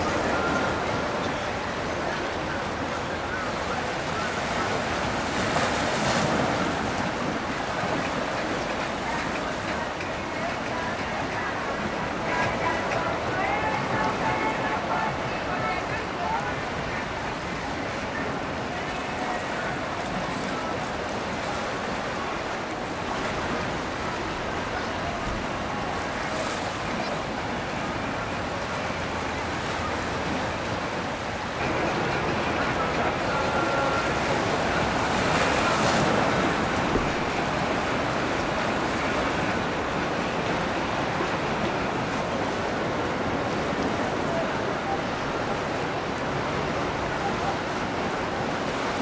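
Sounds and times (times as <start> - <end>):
low rumble of boats: 0.0 - 49.0
river water rushing: 0.0 - 49.0.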